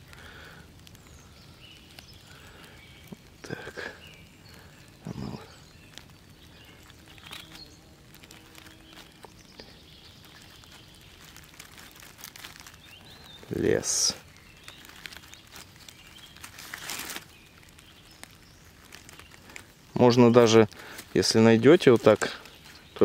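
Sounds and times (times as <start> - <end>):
rustles: 0.0 - 23.0
stick scraping fungus: 1.6 - 23.0.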